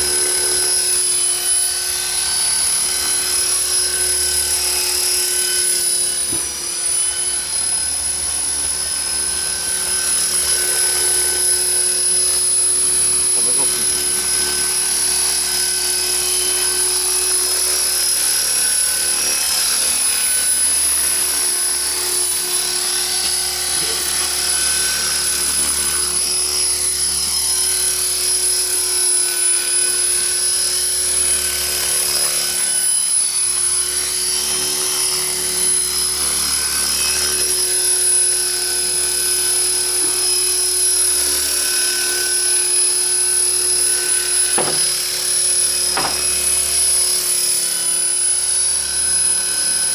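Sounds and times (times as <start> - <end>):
model helicopter motor whine: 0.0 - 49.9.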